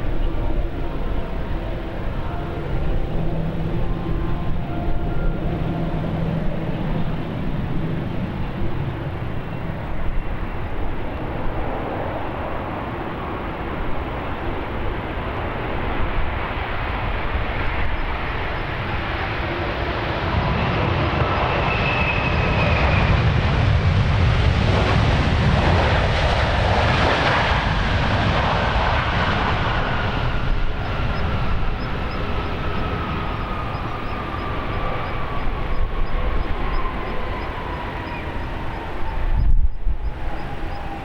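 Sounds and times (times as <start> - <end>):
jet engine whine: 0.0 - 41.0
jet engines passing close by: 0.0 - 41.0.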